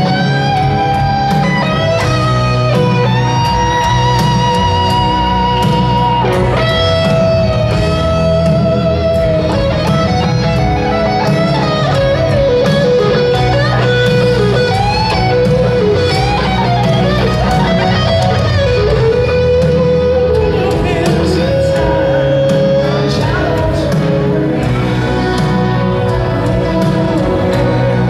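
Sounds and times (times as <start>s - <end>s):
bass guitar: 0.0s - 28.0s
drums: 0.0s - 28.0s
electric guitar solo: 0.0s - 28.0s
keyboard: 0.0s - 28.0s.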